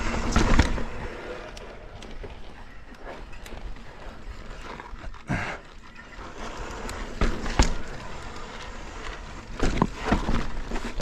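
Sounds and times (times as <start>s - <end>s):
bike knocking and rattling on rock: 0.0s - 11.0s
tyre and wind noise: 0.0s - 11.0s.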